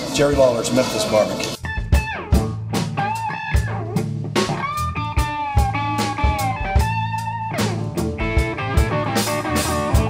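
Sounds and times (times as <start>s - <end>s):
blues-rock music: 0.0s - 10.0s.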